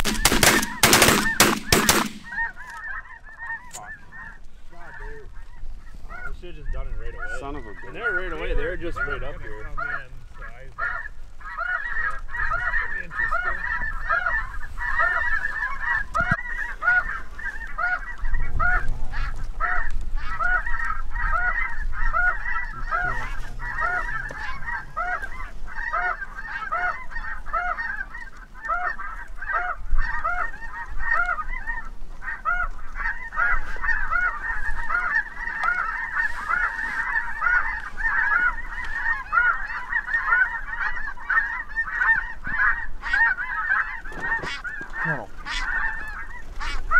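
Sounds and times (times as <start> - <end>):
geese honking: 0.0 - 46.9.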